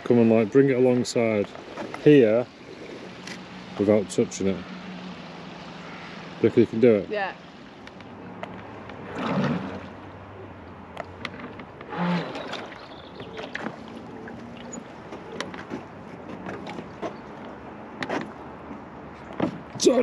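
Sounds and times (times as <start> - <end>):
water lapping: 0.0 - 20.0.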